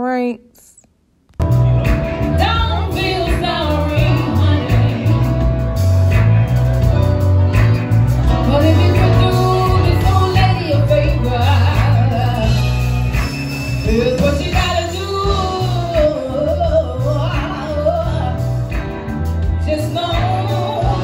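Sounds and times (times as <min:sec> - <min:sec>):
drums: 0:01.3 - 0:21.0
bass line: 0:01.4 - 0:21.0.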